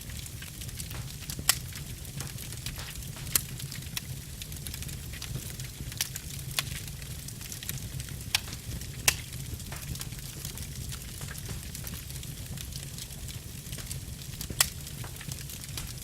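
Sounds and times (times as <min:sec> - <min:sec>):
fire crackles and pops: 0:00.0 - 0:16.0
low rumble of flame: 0:00.0 - 0:16.0.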